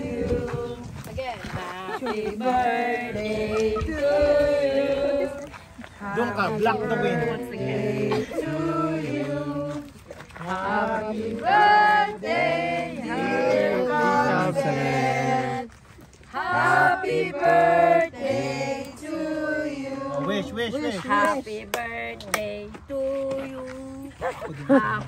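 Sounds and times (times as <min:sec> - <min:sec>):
group singing unaccompanied: 0:00.0 - 0:01.0, 0:01.6 - 0:24.2.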